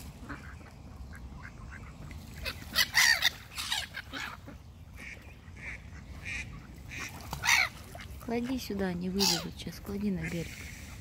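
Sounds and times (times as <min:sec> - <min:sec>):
ducks quacking: 0:00.1 - 0:11.0.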